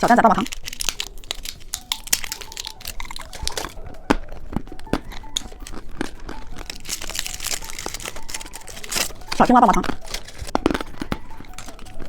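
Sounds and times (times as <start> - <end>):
candy wrapper rustling: 0.0 - 12.0.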